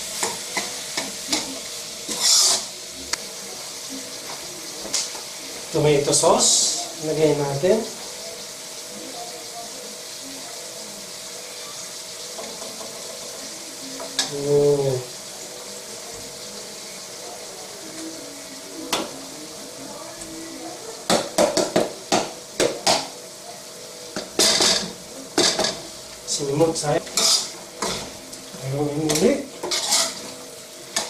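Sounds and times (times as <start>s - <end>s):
meat sizzling in a wok: 0.0s - 31.0s.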